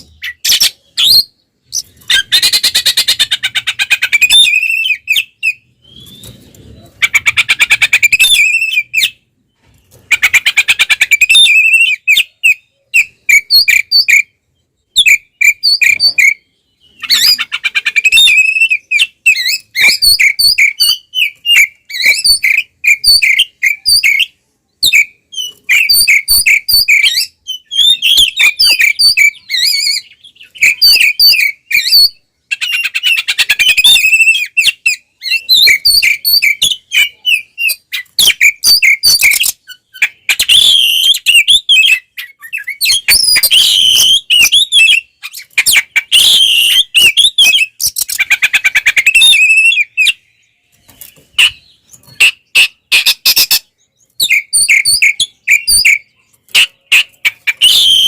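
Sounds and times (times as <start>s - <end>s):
magpie-robin singing buzzy trills: 10.1s - 58.0s.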